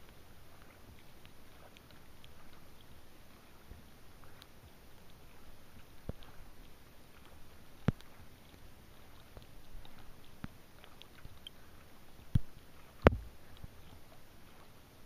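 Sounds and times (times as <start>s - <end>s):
faint hiss of calm water: 0.0s - 15.0s
raindrops ticking on a kayak deck: 0.0s - 15.0s.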